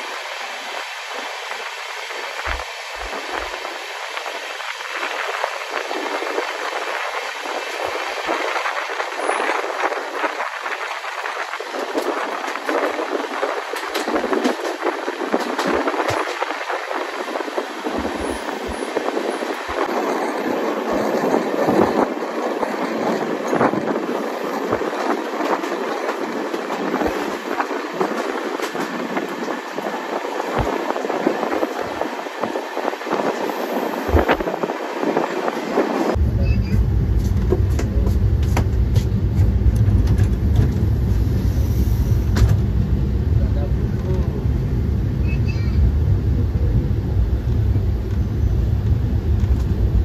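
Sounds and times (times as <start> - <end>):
train coach rushing noise: 0.0 - 50.0.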